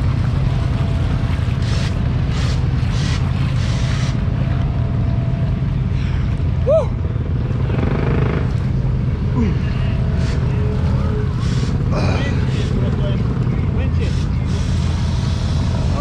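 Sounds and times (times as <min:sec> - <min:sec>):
engine running low rumble: 0:00.0 - 0:16.0.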